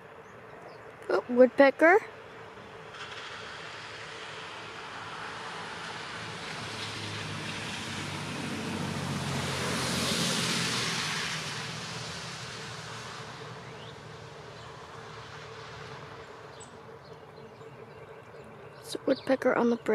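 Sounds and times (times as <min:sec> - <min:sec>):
car passing: 0:00.0 - 0:19.9.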